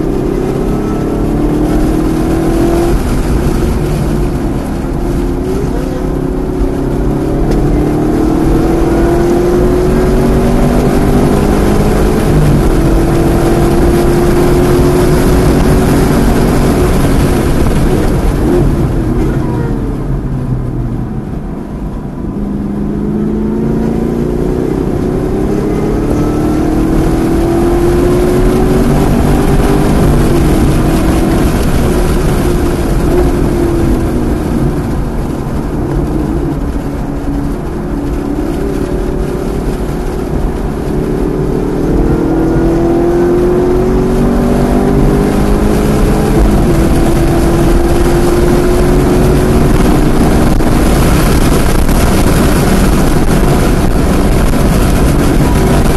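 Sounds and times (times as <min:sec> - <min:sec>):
car engine accelerating hard: 0:00.0 - 0:55.9.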